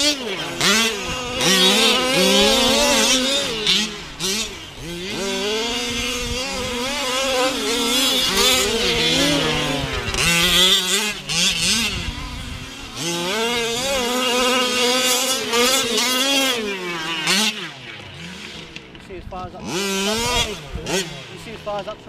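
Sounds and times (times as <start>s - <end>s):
rc truck engine revving: 0.0s - 22.0s.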